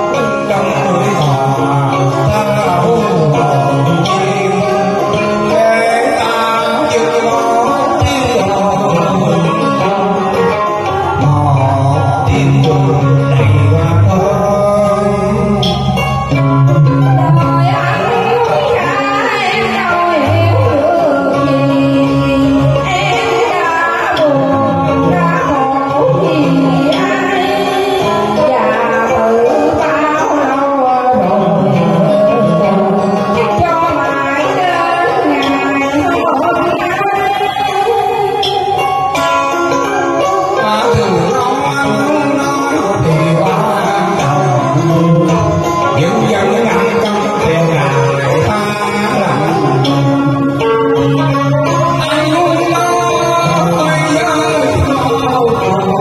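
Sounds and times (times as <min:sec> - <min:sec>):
karaoke backing track with plucked strings: 0:00.0 - 0:56.0
man singing through microphone: 0:00.0 - 0:56.0.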